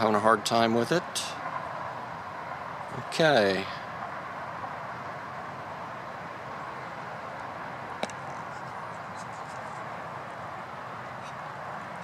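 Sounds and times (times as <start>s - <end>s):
outdoor hiss and hum: 0.0s - 12.0s.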